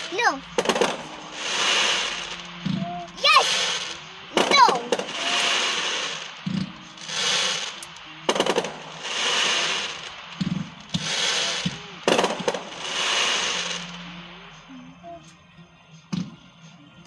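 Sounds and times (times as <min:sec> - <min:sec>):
fireworks sharp bangs: 0:00.0 - 0:14.0
fireworks hissing crackle: 0:00.0 - 0:14.8.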